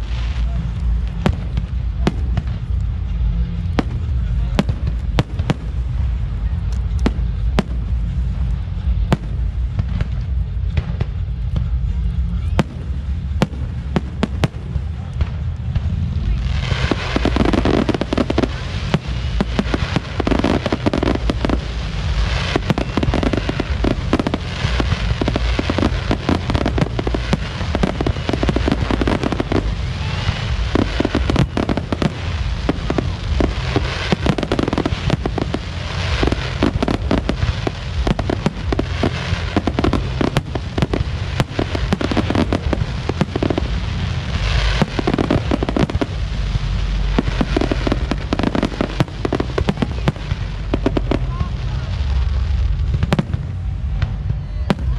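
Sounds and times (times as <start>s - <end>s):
fireworks bangs and crackles: 0.0s - 54.9s
steady low rumble: 0.0s - 54.9s.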